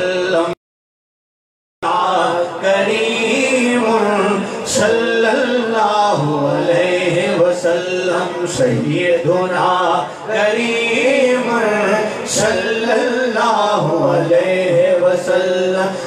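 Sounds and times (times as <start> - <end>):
man chanting melodically: 0.0 - 0.6, 1.8 - 16.0.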